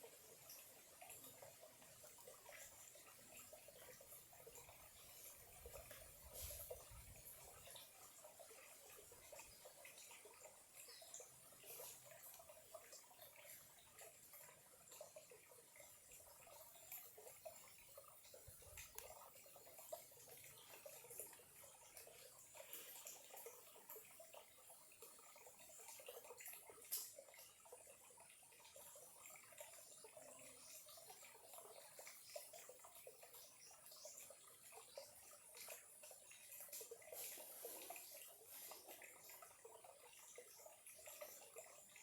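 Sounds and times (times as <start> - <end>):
stream trickling: 0.0 - 42.0
water clicks and drips: 0.0 - 42.0.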